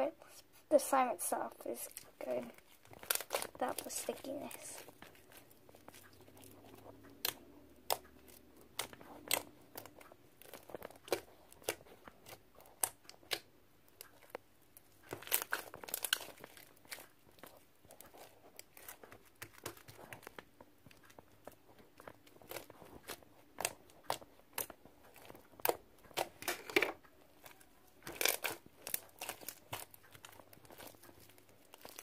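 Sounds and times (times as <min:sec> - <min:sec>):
slime popping and crackling: 0:01.6 - 0:32.0.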